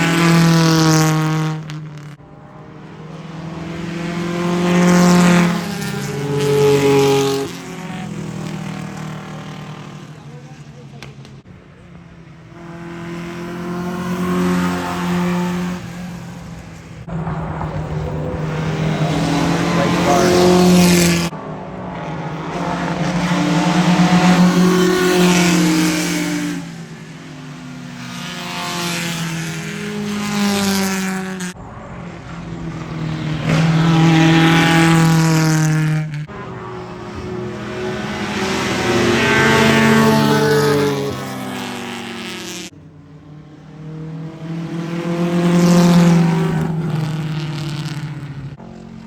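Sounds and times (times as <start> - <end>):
race cars passing at speed: 0.0 - 49.0.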